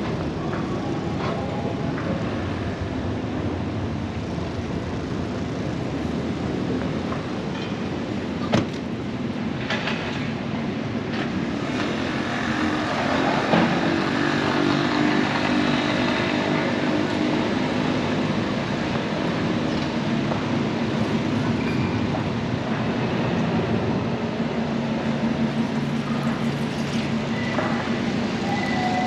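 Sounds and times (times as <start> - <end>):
street traffic: 0.0 - 29.0.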